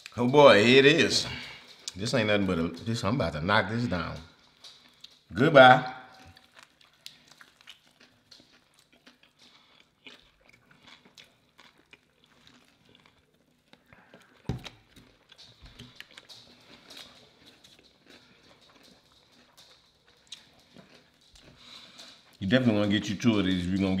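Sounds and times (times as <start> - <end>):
chewing and crunching: 0.0 - 24.0.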